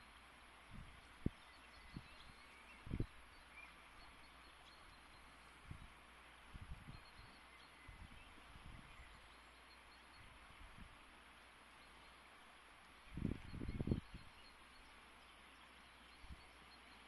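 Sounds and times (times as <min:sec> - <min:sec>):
fast-flowing river hiss: 0:00.0 - 0:13.2, 0:14.2 - 0:17.0
faint bird chirps: 0:00.0 - 0:17.0.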